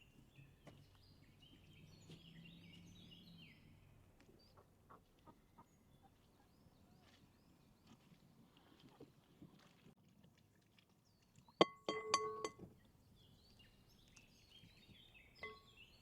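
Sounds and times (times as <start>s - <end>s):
faint birdsong chirps: 0.0s - 9.3s, 11.0s - 16.0s.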